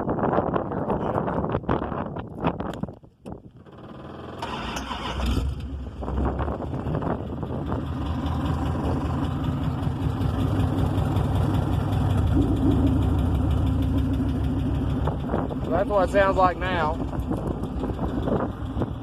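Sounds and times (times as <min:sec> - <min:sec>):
car engine idling: 0:03.6 - 0:19.0.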